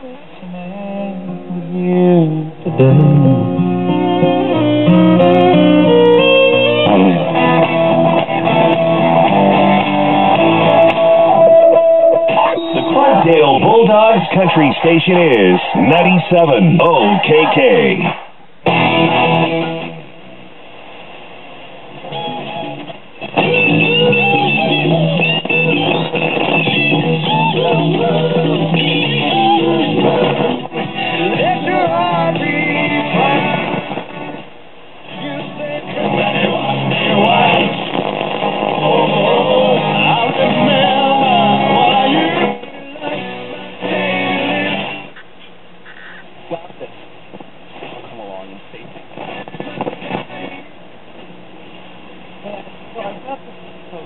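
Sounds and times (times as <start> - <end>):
guitar music on radio: 0.0 - 54.0
radio static hiss: 2.5 - 54.0.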